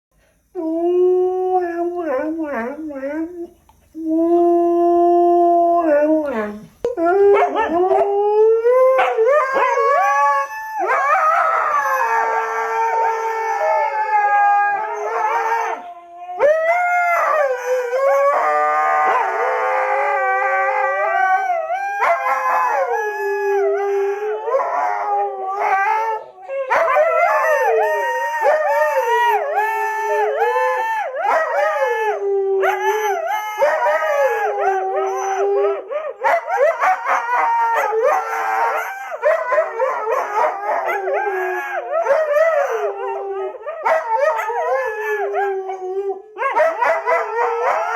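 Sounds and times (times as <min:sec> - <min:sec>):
husky howling: 0:00.7 - 0:47.9.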